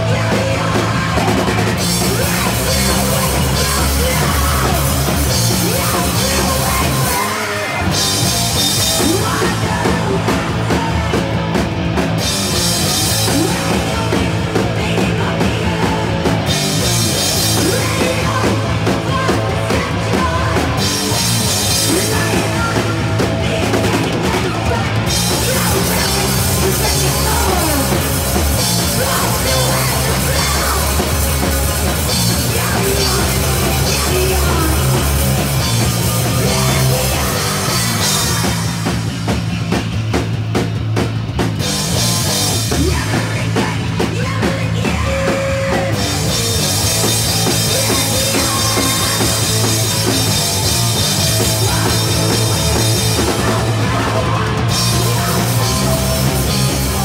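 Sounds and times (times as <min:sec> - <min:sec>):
live punk band playing: 0:00.0 - 0:57.0.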